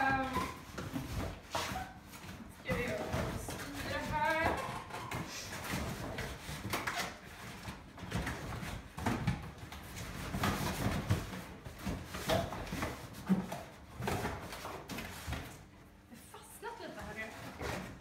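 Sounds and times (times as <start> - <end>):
cardboard rustling and scraping: 0.0 - 15.6.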